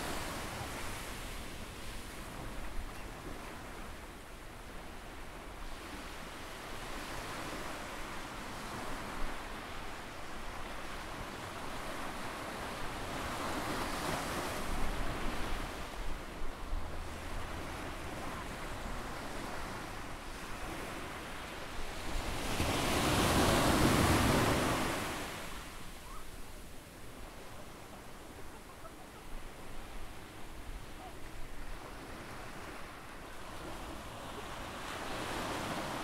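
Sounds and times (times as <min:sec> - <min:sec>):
waves washing on beach: 0:00.0 - 0:36.0.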